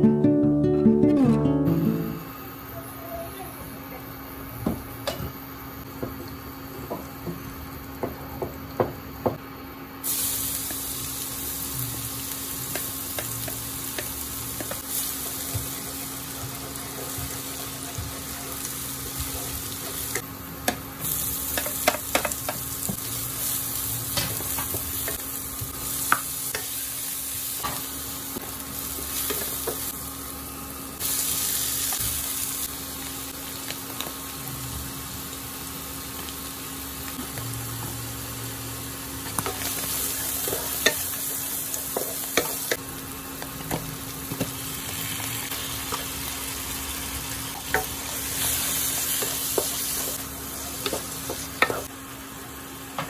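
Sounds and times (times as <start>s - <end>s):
food sizzling in a pan: 10.0s - 53.0s.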